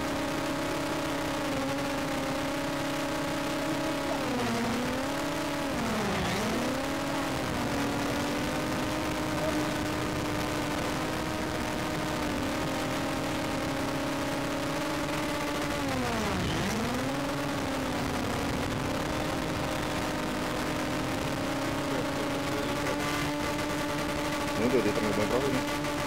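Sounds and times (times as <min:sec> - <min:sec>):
motor hum: 0:00.0 - 0:26.0.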